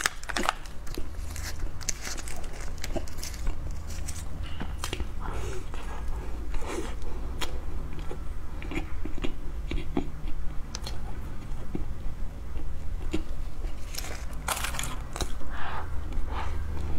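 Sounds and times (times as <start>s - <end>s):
person biting and chewing: 0.0s - 11.9s, 12.5s - 15.4s.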